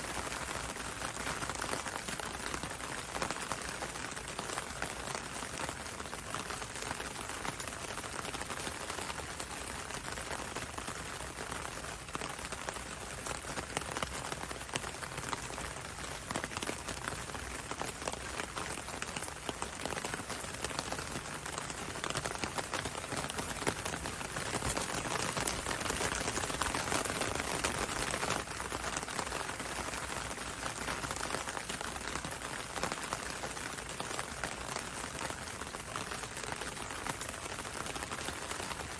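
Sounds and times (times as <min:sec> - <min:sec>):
rain pattering on window and road: 0:00.0 - 0:38.9.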